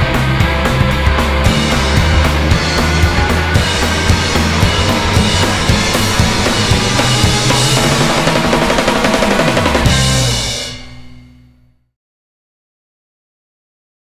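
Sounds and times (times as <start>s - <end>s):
busy drums: 0.0s - 11.5s
live rock band playing: 0.0s - 11.5s.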